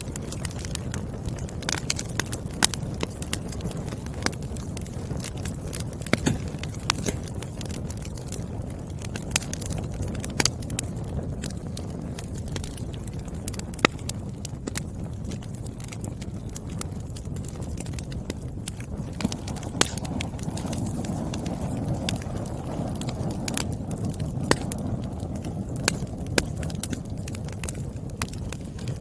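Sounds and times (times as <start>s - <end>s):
firewood crackling and popping: 0.0s - 29.0s
low rumble of fire: 0.0s - 29.0s.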